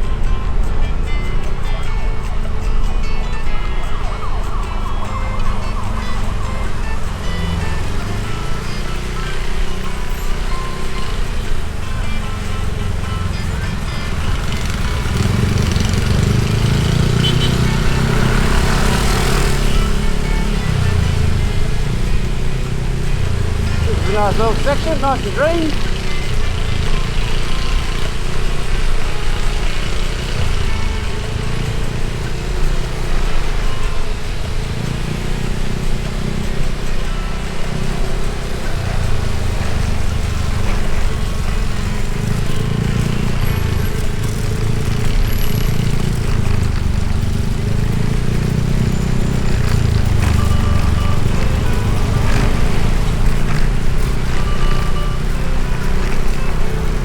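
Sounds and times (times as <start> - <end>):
motorbike engine running: 0.0 - 57.0
road noise: 0.0 - 57.0.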